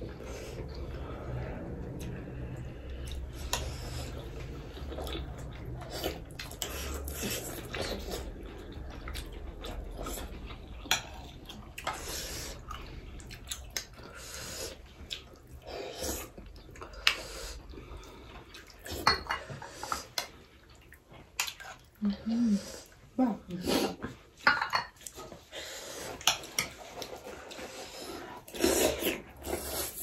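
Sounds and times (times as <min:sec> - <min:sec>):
chewing and slurping: 0:00.0 - 0:22.0, 0:22.7 - 0:30.0.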